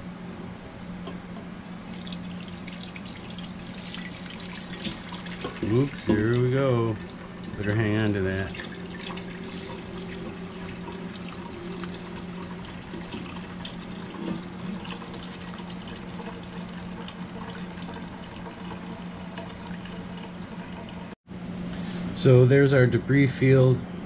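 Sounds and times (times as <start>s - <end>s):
liquid splashing and trickling: 1.6s - 21.2s.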